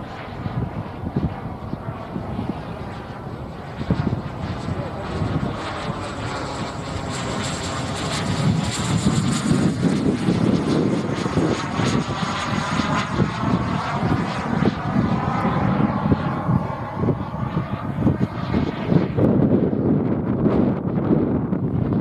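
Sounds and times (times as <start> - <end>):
model jet turbine whine: 0.0 - 22.0.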